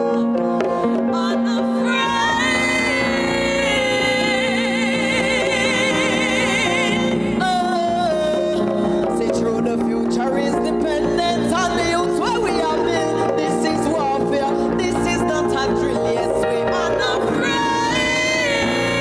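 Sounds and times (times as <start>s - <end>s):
woman singing wordless run: 0.0s - 19.0s.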